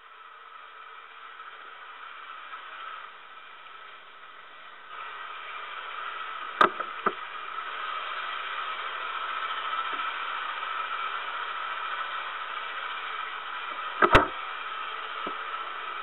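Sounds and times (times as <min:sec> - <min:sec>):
model train whir and hiss: 0:00.0 - 0:16.0.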